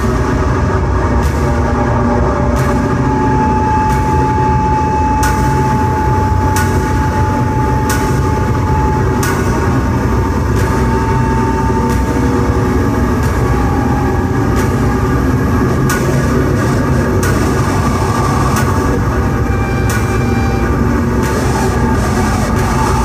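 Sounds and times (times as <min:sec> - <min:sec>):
electronic noise music: 0:00.0 - 0:23.0
repeating sharp click: 0:01.2 - 0:13.6, 0:14.5 - 0:23.0.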